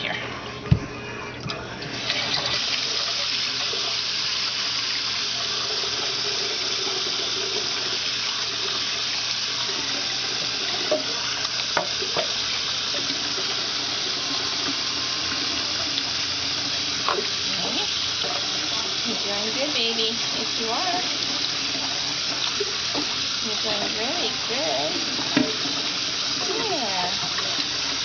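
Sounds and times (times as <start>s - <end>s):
faucet water pouring into pot: 0.0s - 28.0s.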